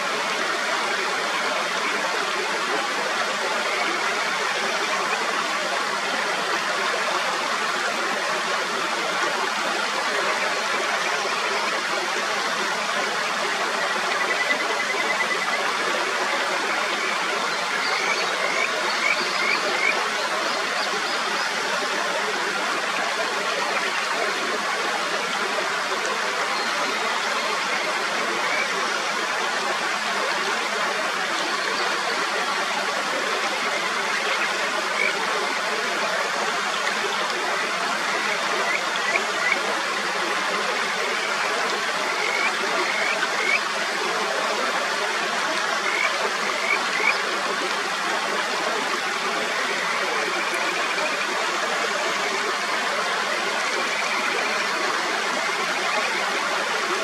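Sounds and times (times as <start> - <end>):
mountain stream running: 0.0 - 57.0.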